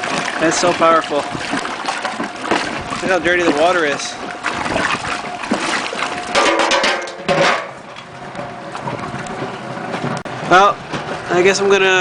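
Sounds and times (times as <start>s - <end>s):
washing machine agitator churning: 0.0s - 12.0s
water sloshing and splashing: 0.0s - 12.0s.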